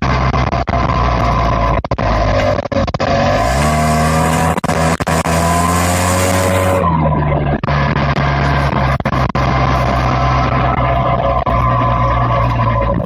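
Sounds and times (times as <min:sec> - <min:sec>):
loud car engine running hard: 0:00.0 - 0:13.0.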